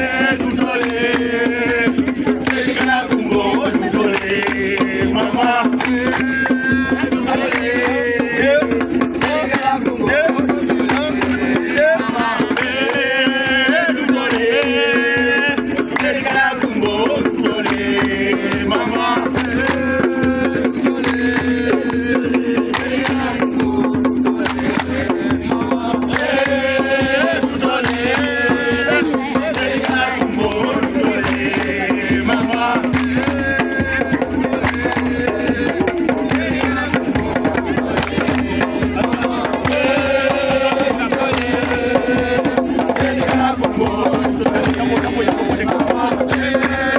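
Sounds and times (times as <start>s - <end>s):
drums and percussion: 0.0s - 46.9s
voices singing: 0.0s - 46.9s.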